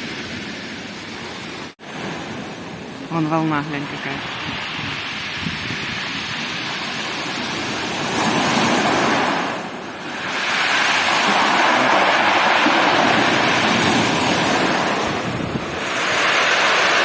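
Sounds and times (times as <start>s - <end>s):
surf crashing on shore: 0.0s - 17.0s.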